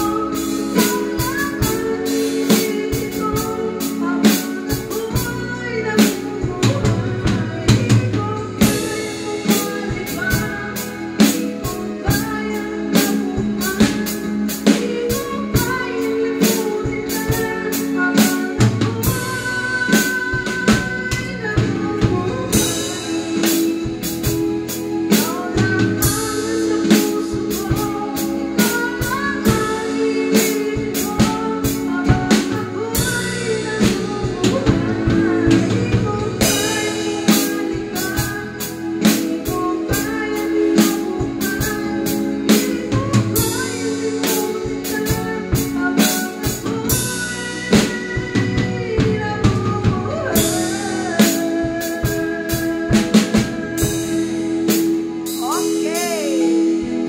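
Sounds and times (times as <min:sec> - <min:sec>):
drum kit with cymbal crashes: 0:00.0 - 0:57.0
electronic keyboard chords and melody: 0:00.0 - 0:57.0.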